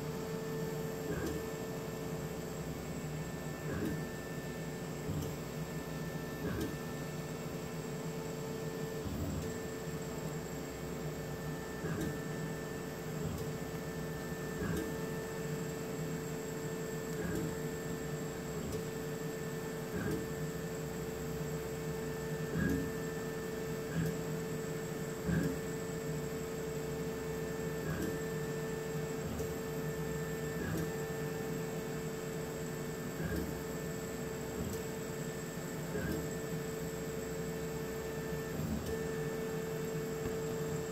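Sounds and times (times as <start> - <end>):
laser cutter humming: 0.0 - 40.9.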